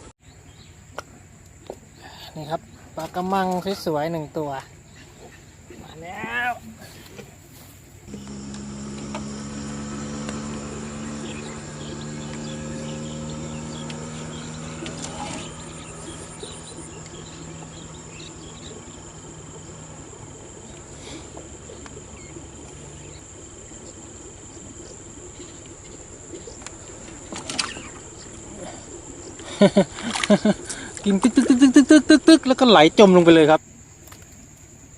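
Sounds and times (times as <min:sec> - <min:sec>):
faint low hum: 0:00.0 - 0:34.9
insects droning: 0:00.0 - 0:34.9.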